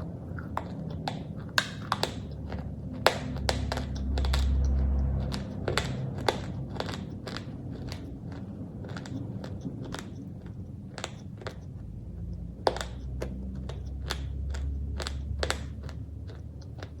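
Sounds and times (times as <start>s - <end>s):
low hum: 0.0s - 16.2s
chewing crunchy food: 0.0s - 17.0s.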